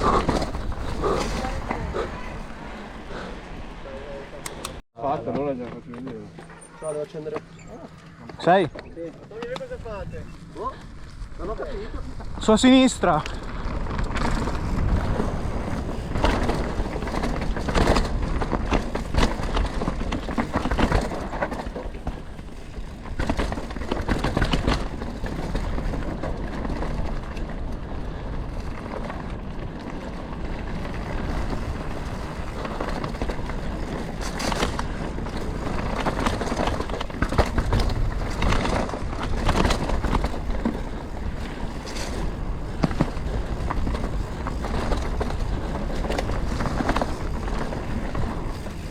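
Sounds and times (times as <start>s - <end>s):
bike knocking and rattling: 0.0s - 48.9s
bike tyres crunching on dirt: 0.0s - 48.9s.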